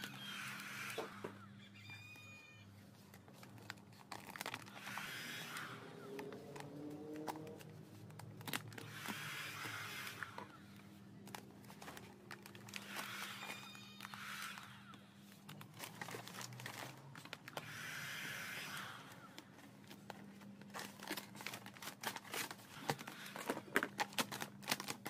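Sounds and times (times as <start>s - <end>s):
vinyl film crinkling and rustling: 2.8s - 14.6s, 15.2s - 17.7s, 19.2s - 25.0s.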